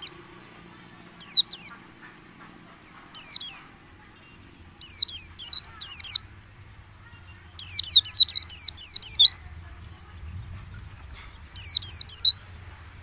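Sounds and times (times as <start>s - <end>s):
bird calling sharp notes: 0.0s - 12.7s.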